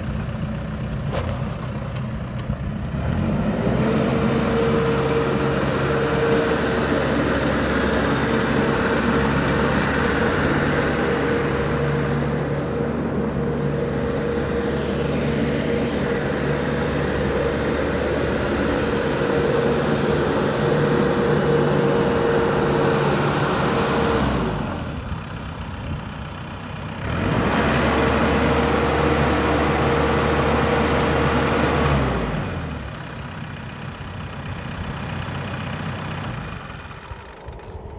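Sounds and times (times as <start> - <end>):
tractor diesel engine revving: 0.0 - 37.9.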